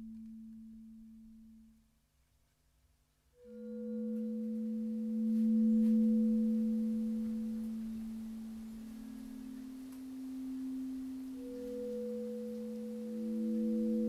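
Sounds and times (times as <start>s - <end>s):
drone of steady pure tones: 0.0s - 2.0s, 3.3s - 14.0s.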